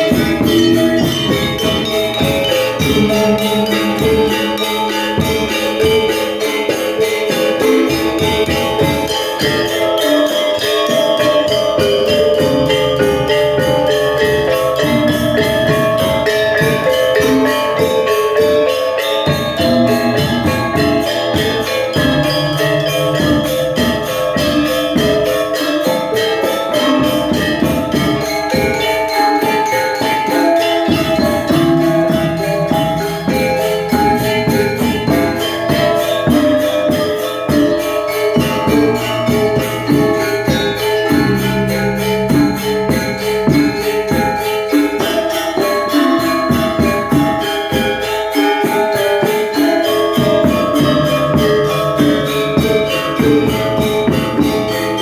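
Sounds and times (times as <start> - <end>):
drumming: 0.0 - 55.0
metallophones and gongs ringing: 0.0 - 55.0
small cymbals clashing: 0.0 - 55.0.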